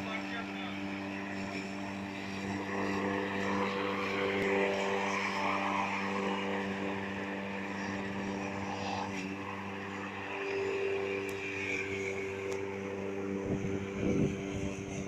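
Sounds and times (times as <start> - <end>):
electric lawn mower running: 0.0 - 15.0.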